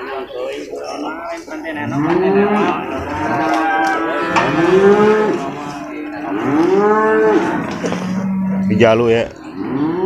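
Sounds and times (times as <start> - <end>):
calves mooing: 1.8 - 10.0.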